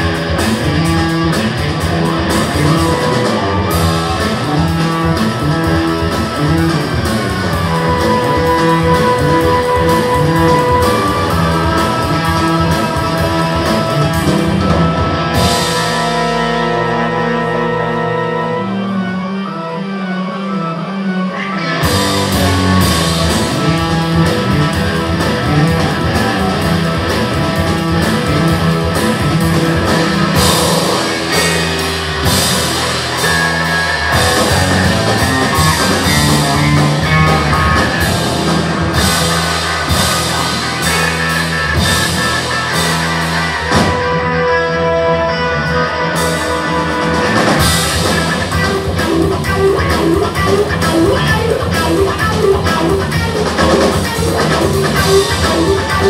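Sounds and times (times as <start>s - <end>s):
drum kit: 0.0s - 18.5s, 21.6s - 56.0s
bass guitar: 0.0s - 56.0s
electric guitar: 0.0s - 56.0s.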